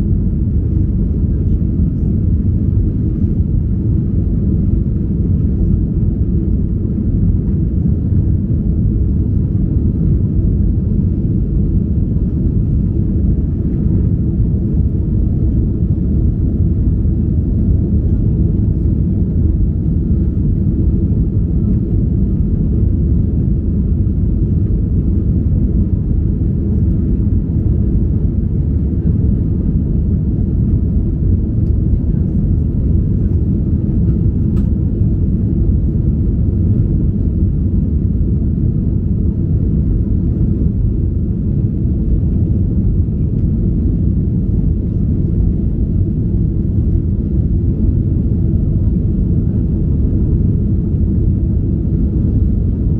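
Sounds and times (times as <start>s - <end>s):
jet engine and airflow rumble: 0.0s - 52.9s.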